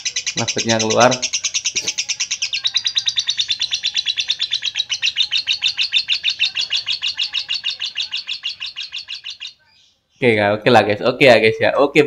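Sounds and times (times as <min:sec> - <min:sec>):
bird trilling: 0:00.0 - 0:10.4.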